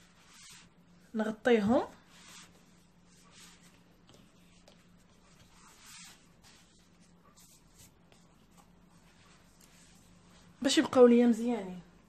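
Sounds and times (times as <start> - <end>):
pastry sheets rustling: 0.0 - 11.5.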